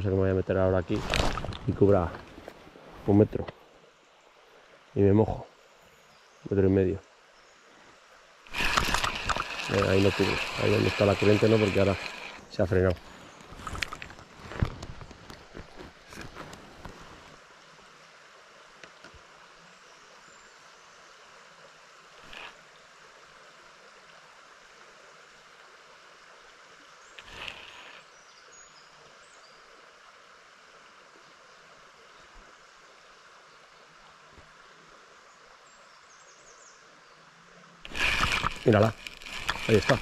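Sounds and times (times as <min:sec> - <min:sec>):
river water running: 0:00.0 - 0:40.0.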